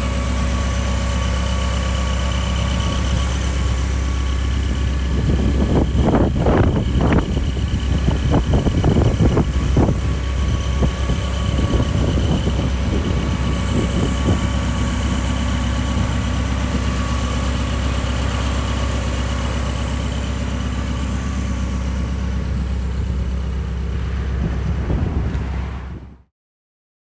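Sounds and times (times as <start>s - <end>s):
car engine idling: 0.0s - 26.2s.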